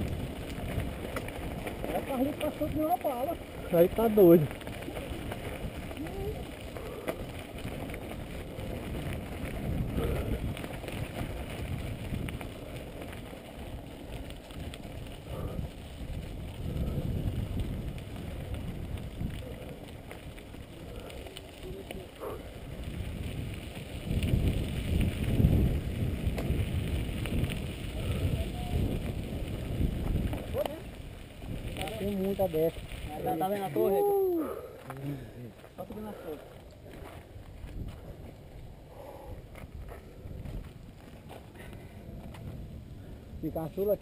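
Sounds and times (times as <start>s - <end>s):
wind on microphone: 0.0s - 34.8s, 36.8s - 43.6s
bike tyres rumbling on dirt: 0.0s - 44.0s.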